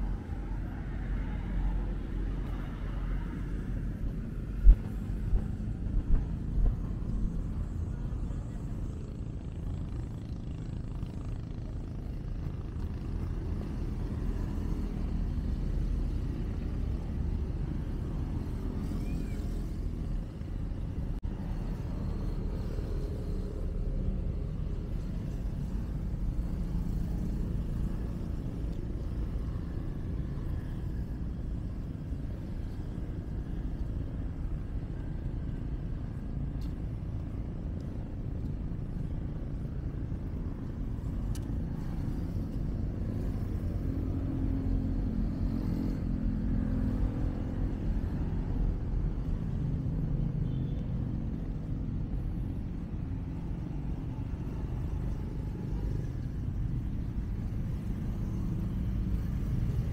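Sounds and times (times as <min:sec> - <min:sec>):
low rumble of road traffic: 0:00.0 - 0:59.9.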